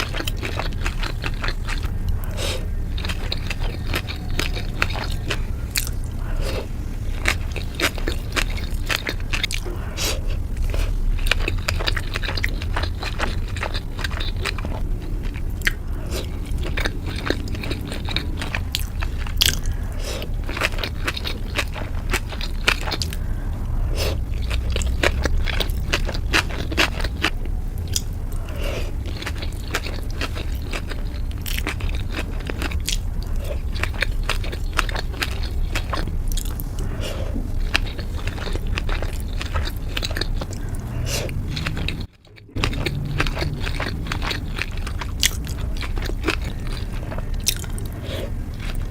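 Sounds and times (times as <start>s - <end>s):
biting and chewing food: 0.0s - 48.9s.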